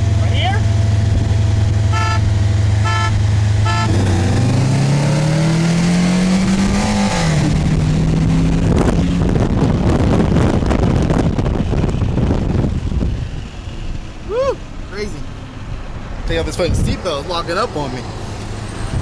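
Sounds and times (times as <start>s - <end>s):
car engine accelerating: 0.0s - 19.0s
wind and road noise: 0.0s - 19.0s.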